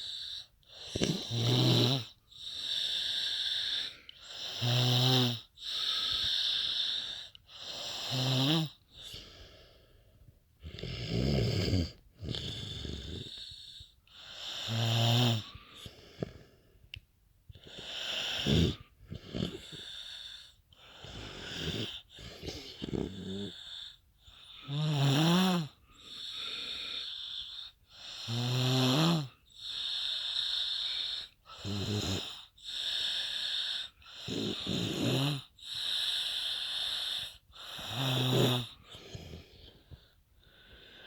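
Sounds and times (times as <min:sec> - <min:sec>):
loud rattling snores: 0:00.0 - 0:08.8, 0:10.6 - 0:13.7, 0:14.4 - 0:15.5, 0:17.7 - 0:20.4, 0:21.0 - 0:24.0, 0:24.7 - 0:39.5.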